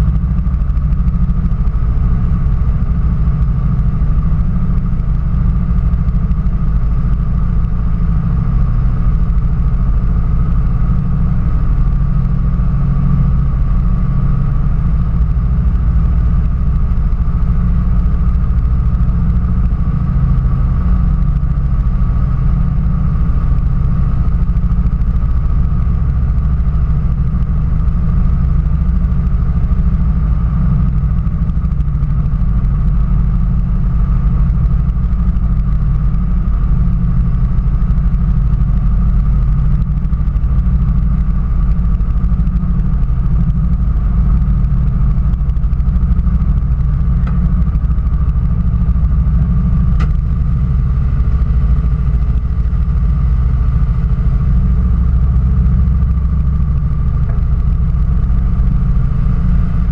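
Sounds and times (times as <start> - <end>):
small engine idling: 0.0 - 59.9.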